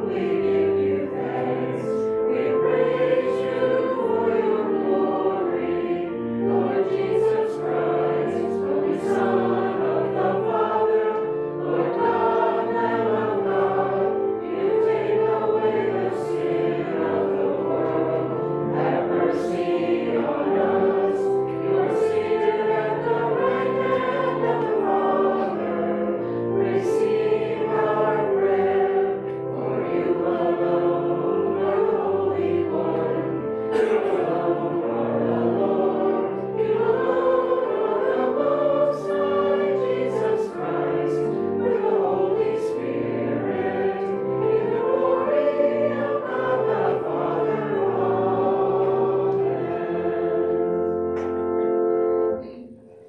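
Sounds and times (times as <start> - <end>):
congregation singing a hymn: 0.0 - 53.0
instrumental accompaniment: 0.0 - 53.0.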